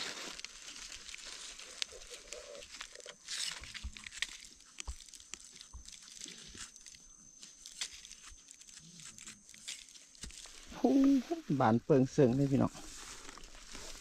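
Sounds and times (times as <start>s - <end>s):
knife scraping in dry soil: 0.0s - 11.6s, 12.6s - 14.0s
leaf litter rustling: 0.0s - 14.0s.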